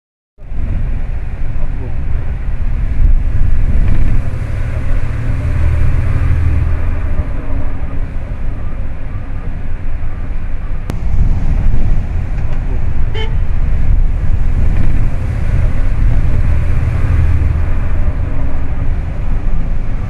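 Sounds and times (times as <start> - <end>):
car engine and tyres rumbling: 0.4 - 20.0.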